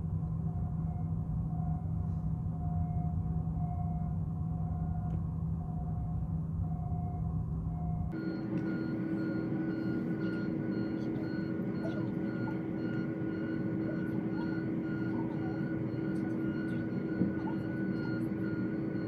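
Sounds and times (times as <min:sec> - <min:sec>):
machinery hum: 0:00.0 - 0:19.0
whining tones: 0:00.3 - 0:19.0.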